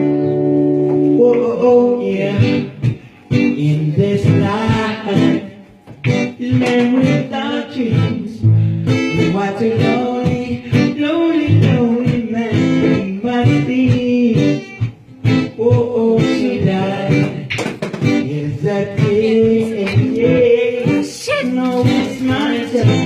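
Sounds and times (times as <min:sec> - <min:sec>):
guitar strummed and picked: 0:00.0 - 0:23.0
person singing: 0:00.9 - 0:23.0.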